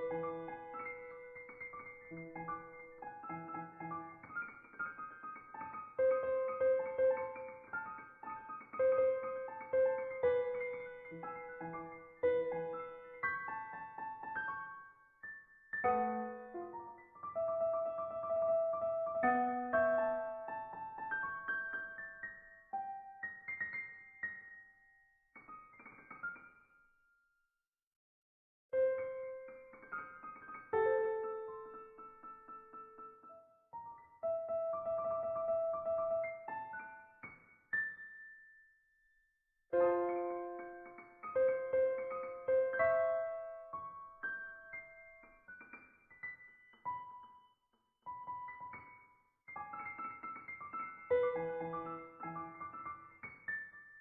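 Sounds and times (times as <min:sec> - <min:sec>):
slow piano melody: 0:00.0 - 0:26.8, 0:28.8 - 0:38.4, 0:39.7 - 0:54.0.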